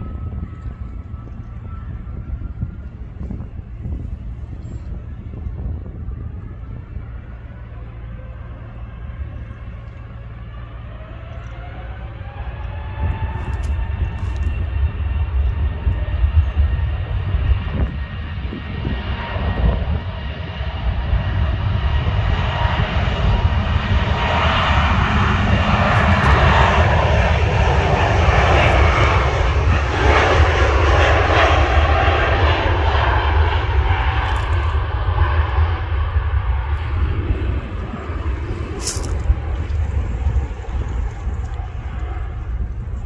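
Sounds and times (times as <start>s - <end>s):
constant deep rumble: 0.0s - 43.0s
jet airliner taking off: 0.0s - 43.0s.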